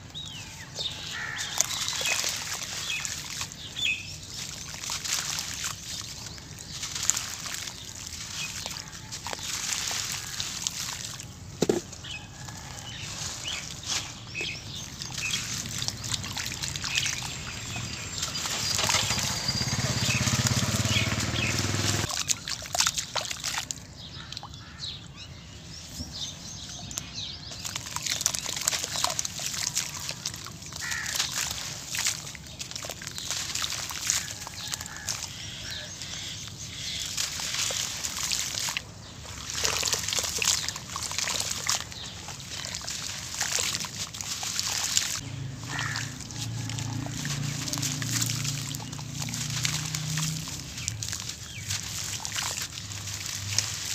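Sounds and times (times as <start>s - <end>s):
hands squeezing wet sand paste: 0.0s - 24.8s, 25.8s - 53.9s
water sloshing and trickling: 0.0s - 53.9s.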